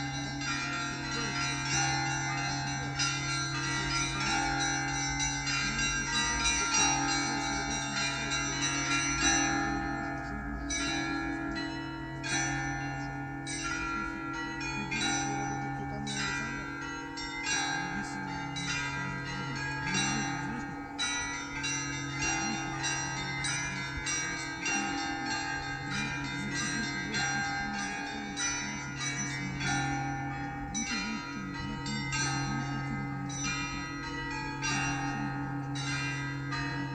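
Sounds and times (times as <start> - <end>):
hum of large bells: 0.0 - 36.9.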